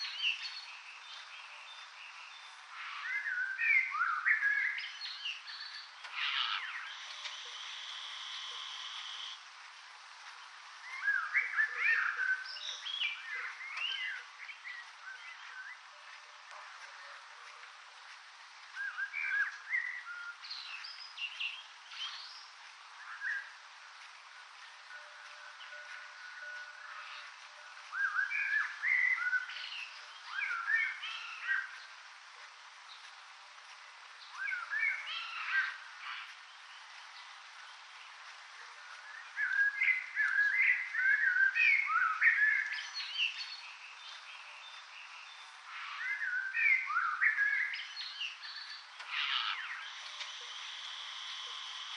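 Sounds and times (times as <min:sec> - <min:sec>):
songbird warbling: 0:00.0 - 0:09.4, 0:10.8 - 0:17.6, 0:18.6 - 0:23.6, 0:24.8 - 0:32.0, 0:34.2 - 0:38.0, 0:38.9 - 0:51.9
small birds chirping: 0:00.0 - 0:51.9
steady hiss: 0:00.0 - 0:51.9.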